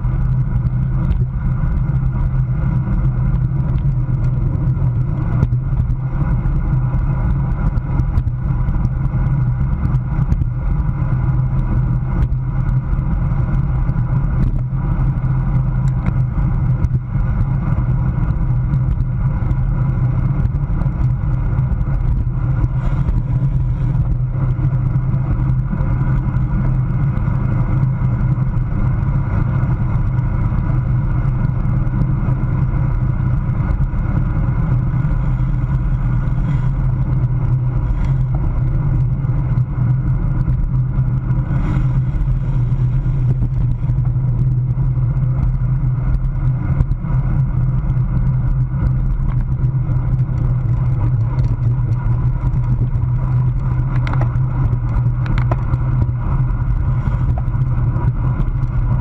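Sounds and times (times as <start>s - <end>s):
tyre and road noise: 0.0s - 59.0s
wind rumble on microphone: 0.0s - 59.0s.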